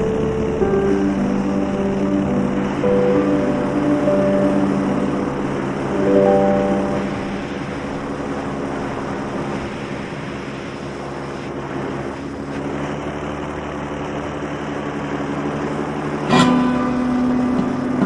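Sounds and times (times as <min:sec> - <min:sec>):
paramotor engine and propeller drone: 0:00.0 - 0:18.0.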